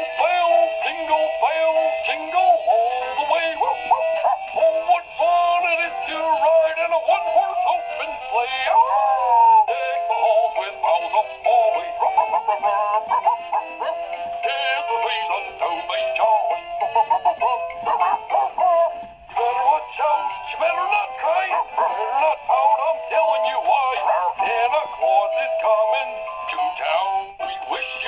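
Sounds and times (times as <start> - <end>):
toy dog singing through speaker: 0.0 - 28.0.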